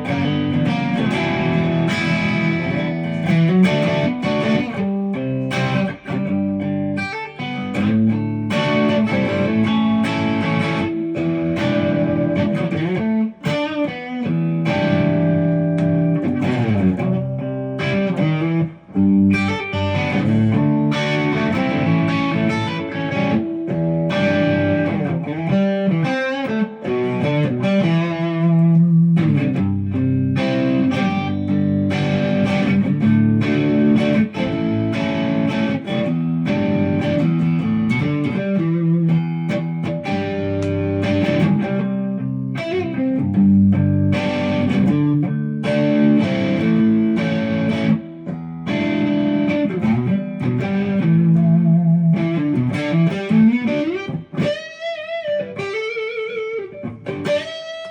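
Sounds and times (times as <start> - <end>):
overdriven electric guitar playing: 0.0 - 57.9.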